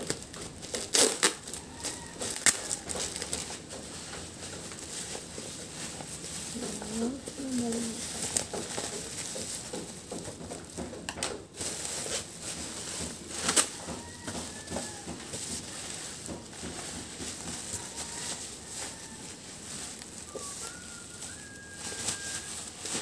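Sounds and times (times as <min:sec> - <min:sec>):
bubble wrap rustling and crinkling: 0:00.0 - 0:23.0.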